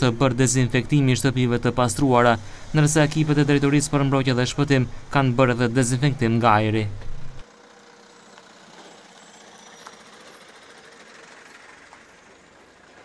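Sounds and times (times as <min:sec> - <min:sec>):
outdoor street noise: 0:00.0 - 0:13.0
vehicles driving on dirt road: 0:00.0 - 0:13.0.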